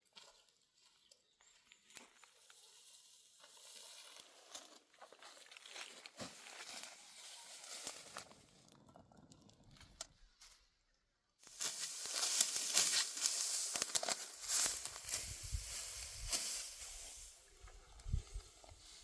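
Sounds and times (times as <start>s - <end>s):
dry rustling and crackling: 1.9s - 10.6s, 11.4s - 19.0s.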